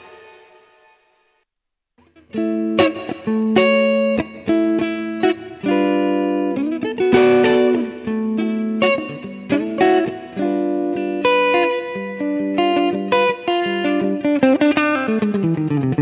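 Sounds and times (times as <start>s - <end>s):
electric guitar choppy chords: 0.0s - 1.1s, 2.0s - 16.0s.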